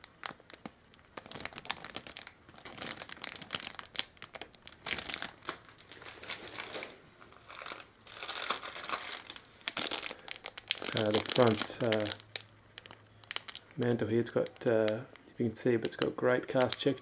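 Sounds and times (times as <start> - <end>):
plastic bags crinkling: 0.0 - 15.0, 15.6 - 17.0.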